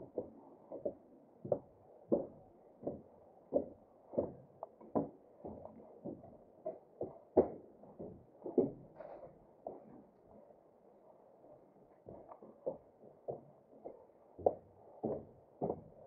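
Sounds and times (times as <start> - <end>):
footsteps on steel stairs: 0.1 - 10.0, 12.1 - 16.0.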